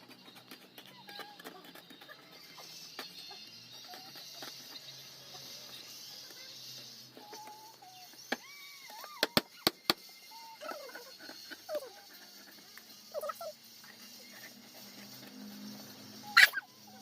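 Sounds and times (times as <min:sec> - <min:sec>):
dog whimpering: 0:00.0 - 0:05.8, 0:07.2 - 0:17.0.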